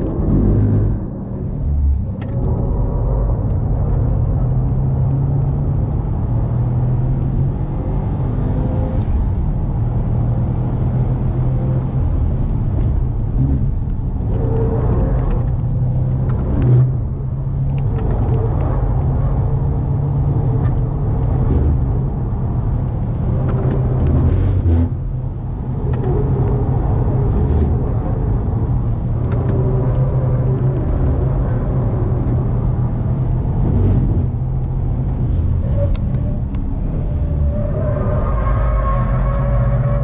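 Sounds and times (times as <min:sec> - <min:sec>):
road and tyre rumble: 0:00.0 - 0:40.0.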